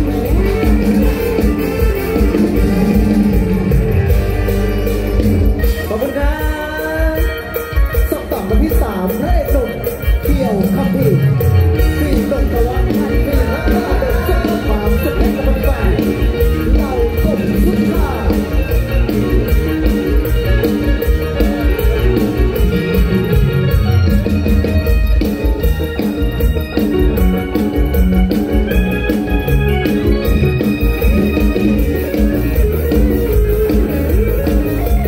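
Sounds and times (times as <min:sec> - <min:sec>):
heavy bass: 0:00.0 - 0:07.1, 0:10.2 - 0:35.0
electronic keyboard melody: 0:00.0 - 0:35.0
steady drum beat: 0:00.0 - 0:35.0.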